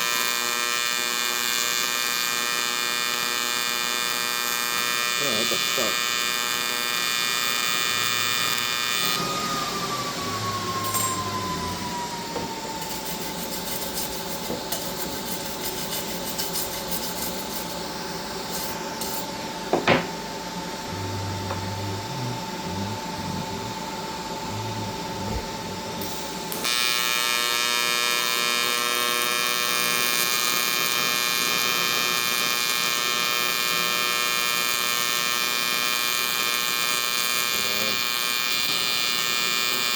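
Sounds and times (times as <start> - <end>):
welding arc buzzing: 0.0 - 39.9.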